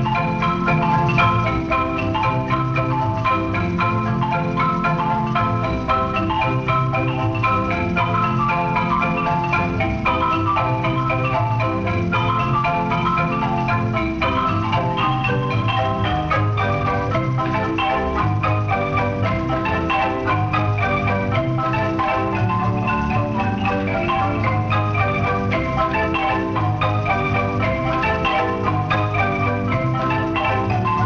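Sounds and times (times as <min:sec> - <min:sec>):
marimba ensemble music: 0:00.0 - 0:31.0.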